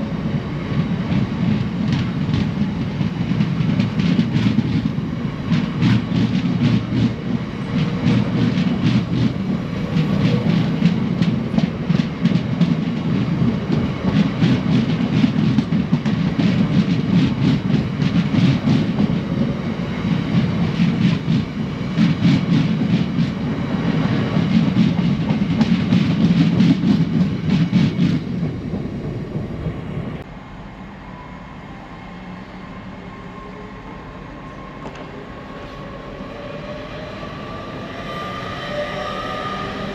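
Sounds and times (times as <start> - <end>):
train rumble: 0.0 - 39.9
train wheels clicking on rails: 0.7 - 30.3, 34.8 - 39.9.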